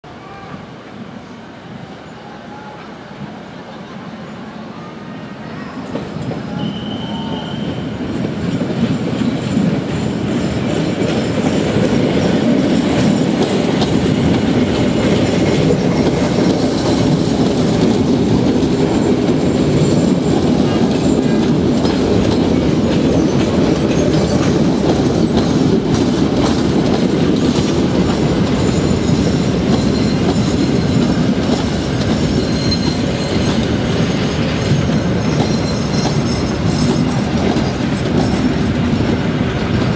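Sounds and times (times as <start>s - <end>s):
train rumbling: 0.1s - 39.9s.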